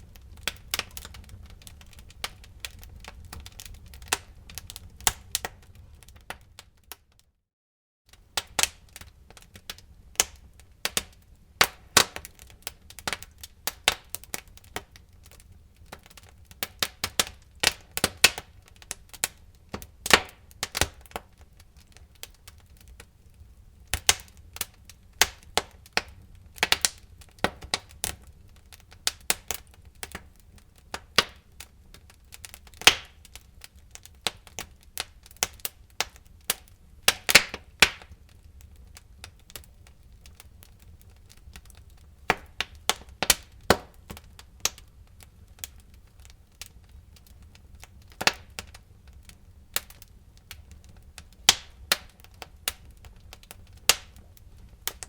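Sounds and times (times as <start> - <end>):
wood fire crackling: 0.0 - 7.4, 8.1 - 55.0.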